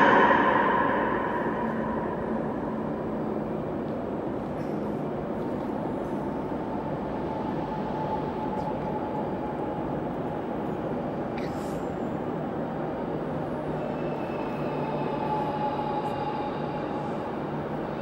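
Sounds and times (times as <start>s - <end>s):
faint high hum: 0.0s - 18.0s
train rumbling in tunnel: 0.0s - 18.0s.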